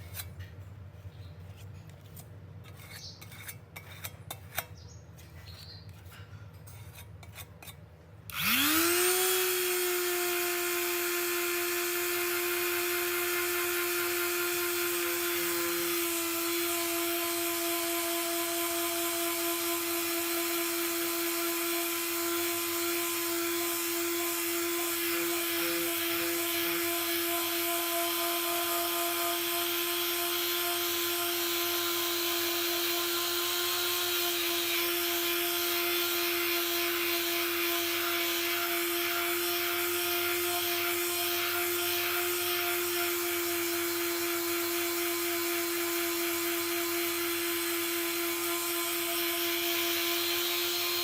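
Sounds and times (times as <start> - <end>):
electric power tool running: 8.3 - 51.0.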